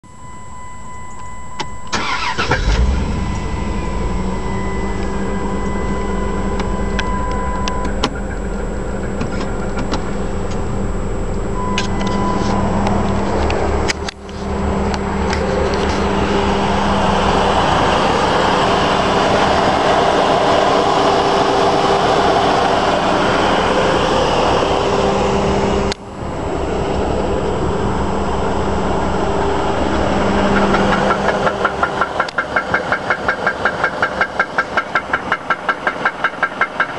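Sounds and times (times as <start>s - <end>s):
car engine starting: 1.1s - 36.9s
engine idling with loud clanking: 2.0s - 36.9s.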